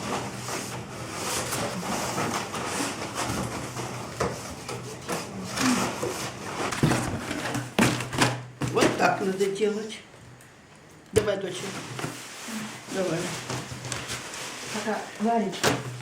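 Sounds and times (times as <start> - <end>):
rustling of things being packed: 0.0 - 9.8, 11.4 - 16.0.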